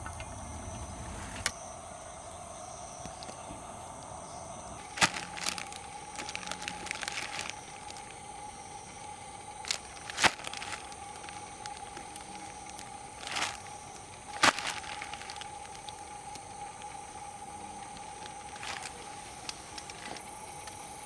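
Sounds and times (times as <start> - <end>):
insects chirring: 0.0 - 21.0
campfire crackling and popping: 3.0 - 20.8.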